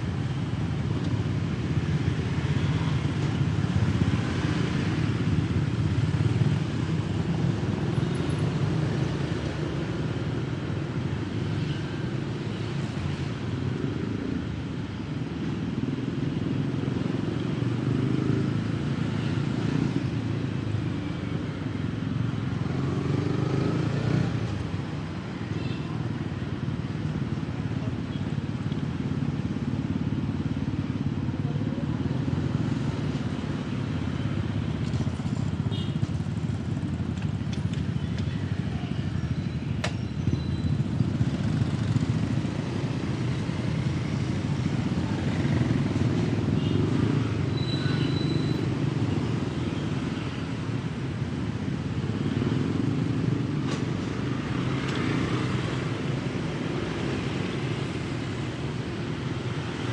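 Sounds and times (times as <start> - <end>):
motorbike traffic rumbling: 0.0 - 59.9.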